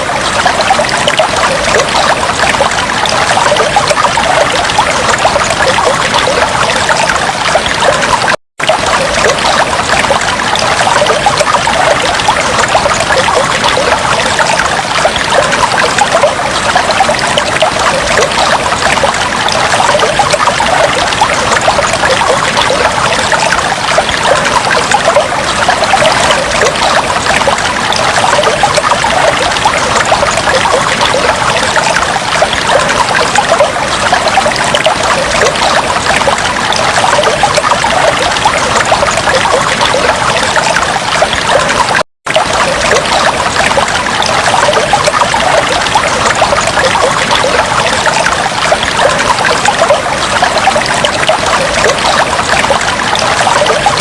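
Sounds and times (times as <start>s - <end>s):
aquarium water bubbling: 0.0s - 54.0s.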